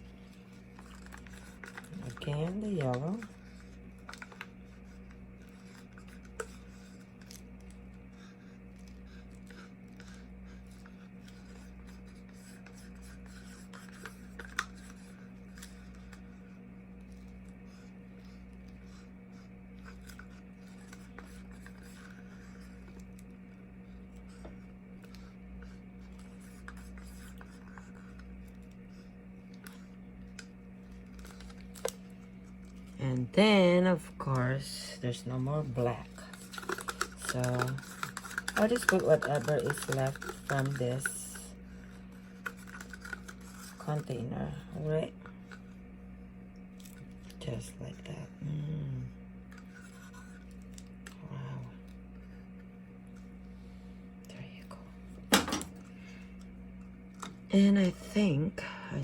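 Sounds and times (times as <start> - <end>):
plastic cups scratching and clicking: 0.0 - 45.8, 49.5 - 51.2
low electrical hum: 0.0 - 59.0.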